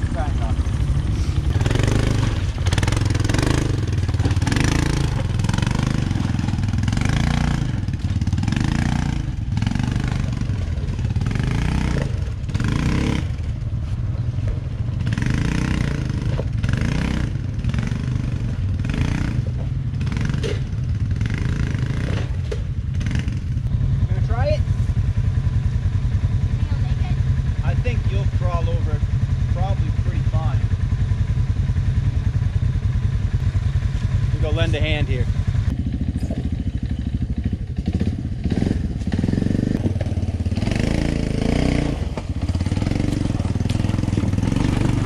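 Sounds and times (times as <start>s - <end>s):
atv engine revving: 0.0s - 45.0s.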